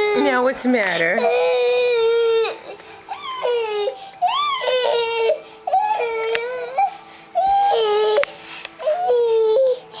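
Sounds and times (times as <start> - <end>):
baby crying: 0.0 - 10.0.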